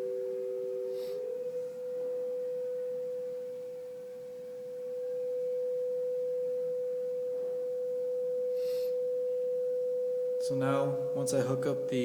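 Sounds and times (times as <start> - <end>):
steady sine tone: 0.0 - 12.0.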